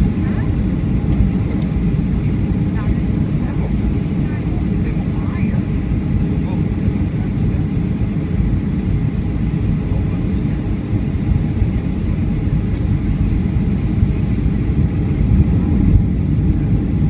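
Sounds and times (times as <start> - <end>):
faint steady whine: 0.0 - 17.0
jet engine and airflow rumble: 0.0 - 17.0.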